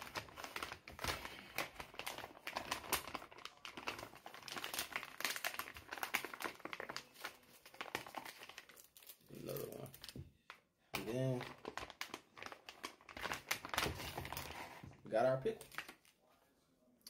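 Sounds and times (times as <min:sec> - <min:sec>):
foil bag crinkling: 0:00.0 - 0:16.2.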